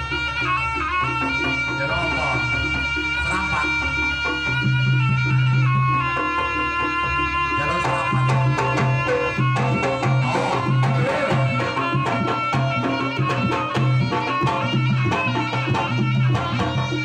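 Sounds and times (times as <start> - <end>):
gamelan music over loudspeakers: 0.0 - 17.0
fast hand-drum strokes: 0.1 - 17.0.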